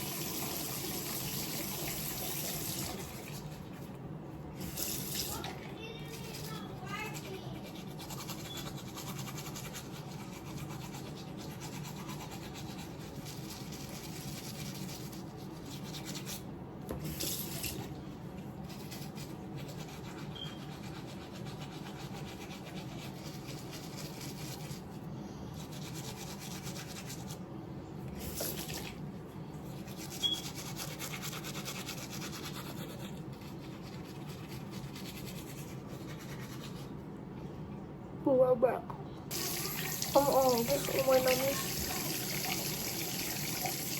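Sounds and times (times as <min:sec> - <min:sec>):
toothbrush scrubbing teeth: 0:00.0 - 0:04.0, 0:04.6 - 0:27.4, 0:29.6 - 0:37.0, 0:39.3 - 0:43.9
low background hum: 0:00.0 - 0:43.9.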